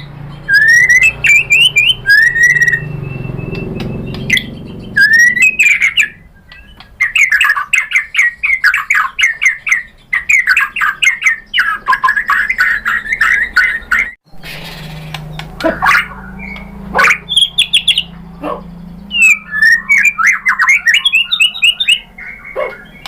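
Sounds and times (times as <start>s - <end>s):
bird whistling and chattering: 0.0s - 23.0s.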